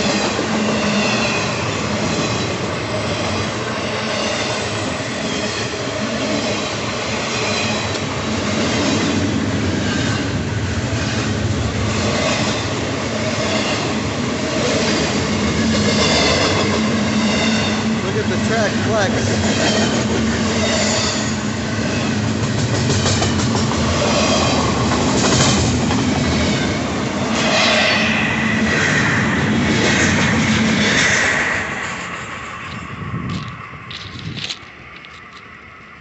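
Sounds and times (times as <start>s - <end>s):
train wheels rumbling and clicking: 0.0s - 36.0s.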